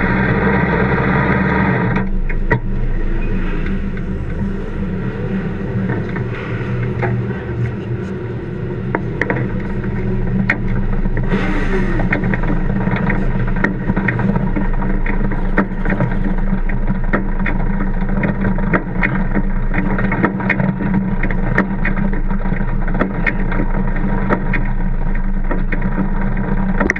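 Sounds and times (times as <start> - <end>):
racing engine idling: 0.0 - 26.9.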